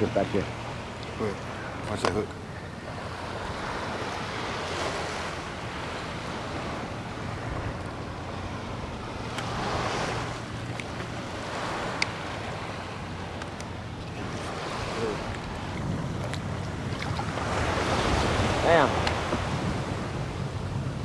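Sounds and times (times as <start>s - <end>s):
water lapping: 0.0s - 21.0s
wind buffeting microphone: 0.0s - 21.0s.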